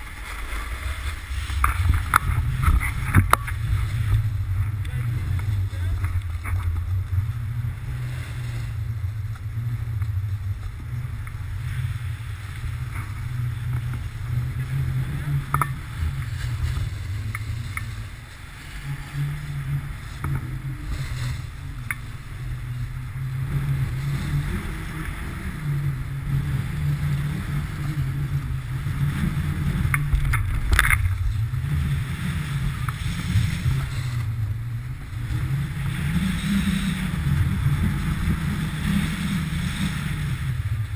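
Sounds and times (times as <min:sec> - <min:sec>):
snowboard scraping over snow: 0:00.0 - 0:40.9
wind buffeting microphone: 0:00.0 - 0:40.9.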